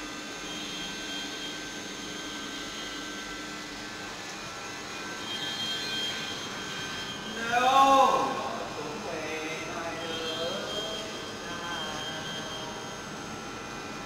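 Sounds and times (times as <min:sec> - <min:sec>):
milling machine whine: 0:00.0 - 0:14.0.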